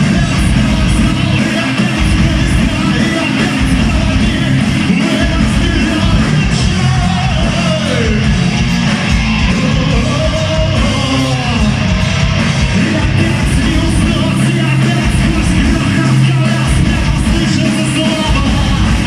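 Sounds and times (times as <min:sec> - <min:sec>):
gliding vocal or lead guitar: 0:00.0 - 0:19.0
heavy metal band playing: 0:00.0 - 0:19.0.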